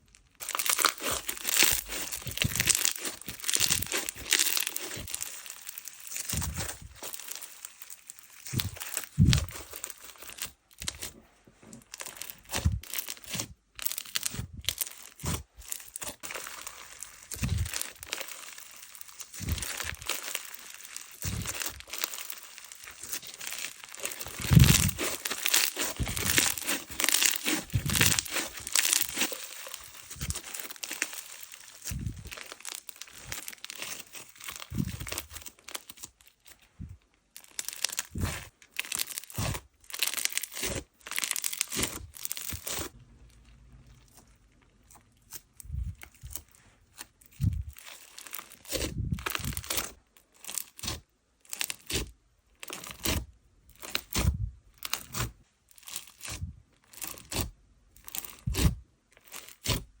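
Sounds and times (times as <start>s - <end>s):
slime squished by hand crackling: 0.3s - 11.1s, 11.9s - 36.2s, 37.4s - 43.0s, 47.4s - 59.9s.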